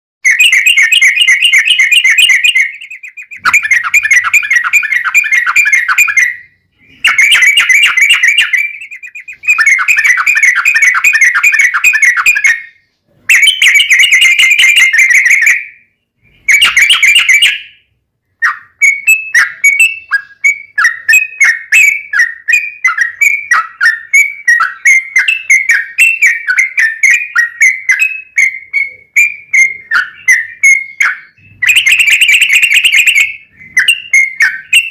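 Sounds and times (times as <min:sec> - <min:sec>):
bird singing rolling trills: 0:00.2 - 0:34.9.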